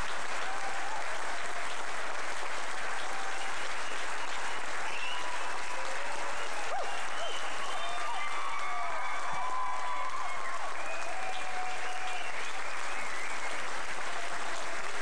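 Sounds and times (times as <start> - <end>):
audience applauding: 0.0 - 15.0
people cheering and whooping: 0.0 - 15.0.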